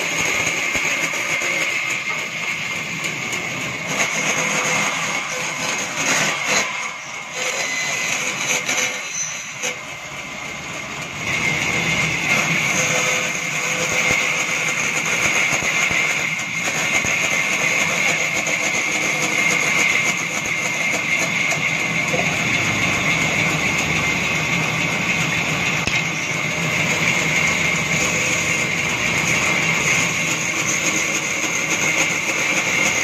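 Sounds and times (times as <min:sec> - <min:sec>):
band saw cutting wood: 0:00.0 - 0:33.0.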